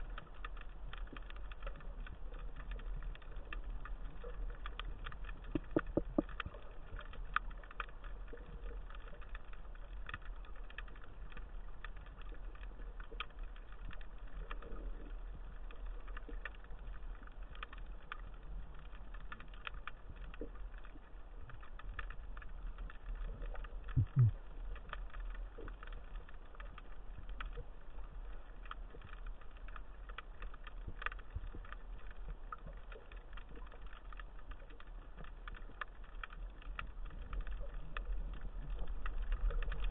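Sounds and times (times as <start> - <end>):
faint clicks and crackles: 0.0 - 39.9
underwater low hum: 0.0 - 39.9.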